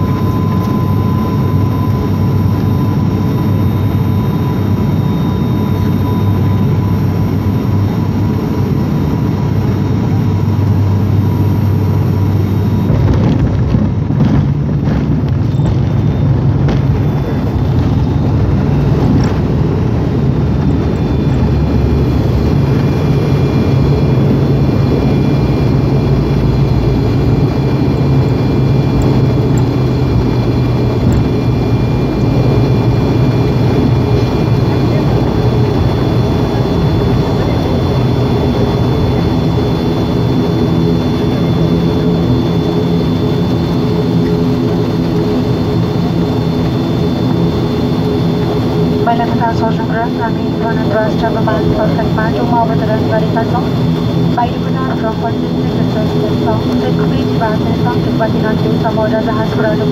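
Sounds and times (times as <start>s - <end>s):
airliner engines rumbling: 0.0s - 59.9s
low hum: 0.0s - 59.9s.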